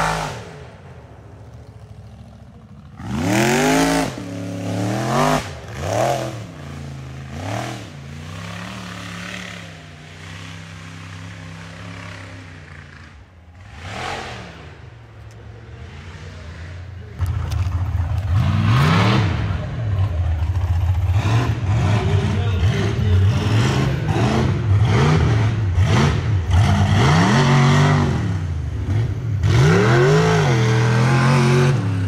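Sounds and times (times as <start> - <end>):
buggy engine revving: 0.0 - 32.0.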